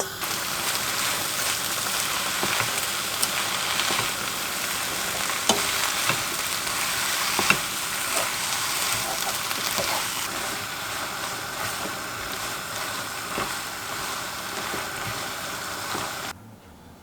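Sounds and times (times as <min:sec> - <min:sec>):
octopus sizzling in a hot pan: 0:00.0 - 0:16.3
utensil clicking against pan: 0:00.0 - 0:16.3.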